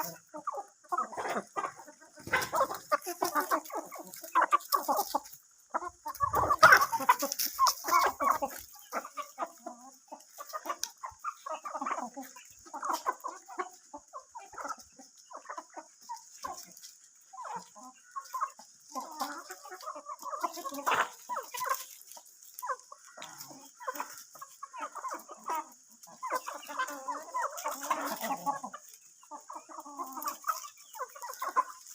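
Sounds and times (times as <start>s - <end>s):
chickens clucking: 0.0s - 31.9s.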